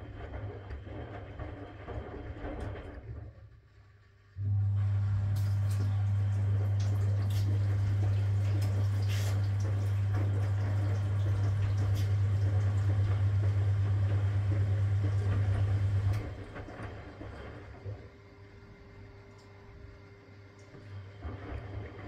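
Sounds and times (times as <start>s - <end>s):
water rushing in machine: 0.0s - 3.5s, 4.4s - 22.0s
washing machine hum: 0.0s - 22.0s.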